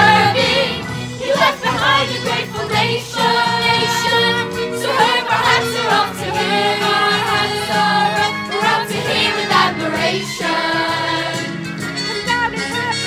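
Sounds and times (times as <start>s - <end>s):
young voices singing in chorus: 0.0s - 11.5s
recorded musical accompaniment: 0.0s - 13.0s.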